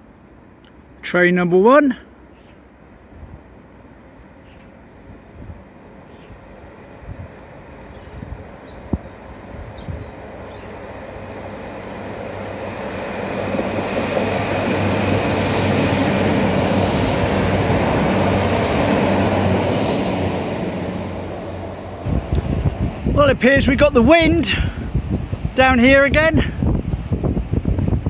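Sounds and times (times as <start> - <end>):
train passing close by: 2.1 - 28.0.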